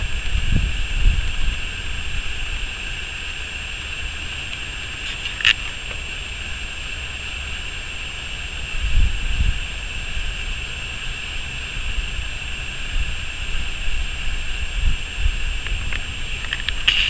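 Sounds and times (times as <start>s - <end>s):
electronic hiss and whine: 0.0s - 17.0s
high-pitched interference buzz: 0.0s - 17.0s
wind rumbling on microphone: 0.0s - 17.0s.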